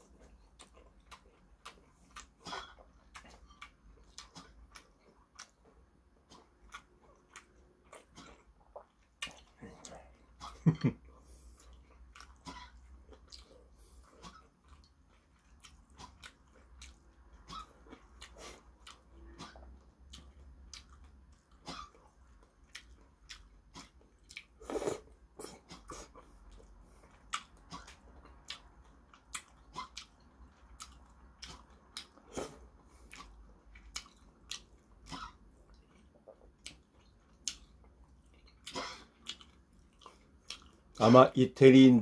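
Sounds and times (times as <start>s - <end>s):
person chewing noodles: 0.0s - 41.3s.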